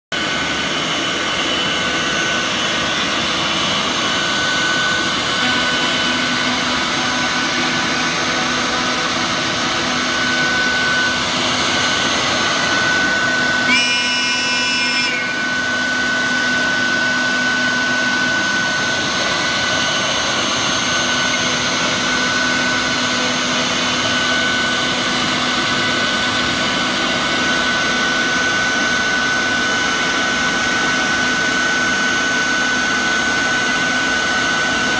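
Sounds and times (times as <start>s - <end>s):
higher-pitched whine: 0.1s - 34.9s
router spindle whine: 0.2s - 34.9s.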